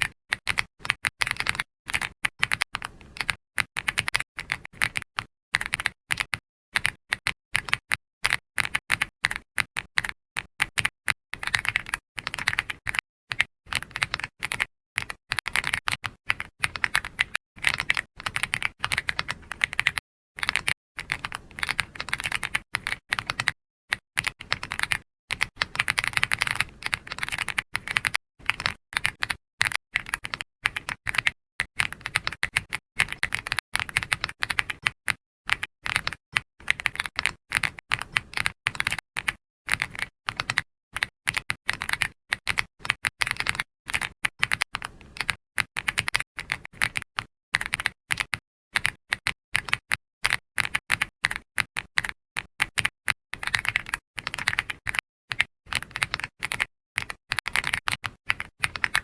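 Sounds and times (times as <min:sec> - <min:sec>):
keyboard typing clicks: 0:00.3 - 0:47.0, 0:47.6 - 0:59.0.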